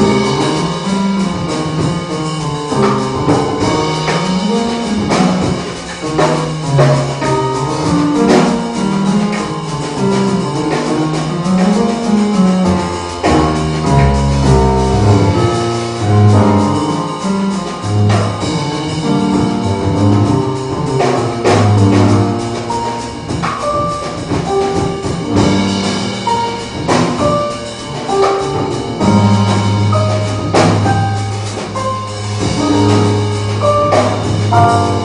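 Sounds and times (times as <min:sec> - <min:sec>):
drum and cymbal hits: 0:00.0 - 0:35.0
keyboard playing low notes: 0:00.0 - 0:35.0.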